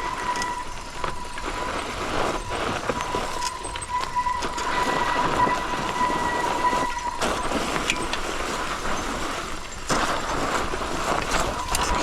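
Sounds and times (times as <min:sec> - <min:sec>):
high-pitched brake squeal: 0:00.0 - 0:09.9
bike tyres on rough trail: 0:00.0 - 0:12.0
wind: 0:00.0 - 0:12.0.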